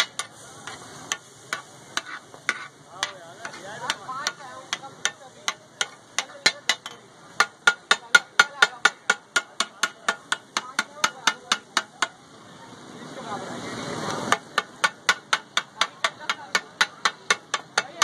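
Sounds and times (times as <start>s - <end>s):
metal spatulas striking iron griddle: 0.0s - 12.2s, 14.3s - 18.0s.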